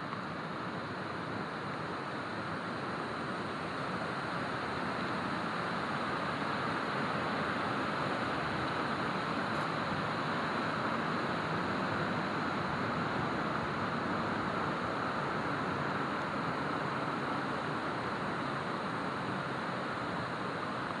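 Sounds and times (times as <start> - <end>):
stream running over rocks: 0.0 - 21.0.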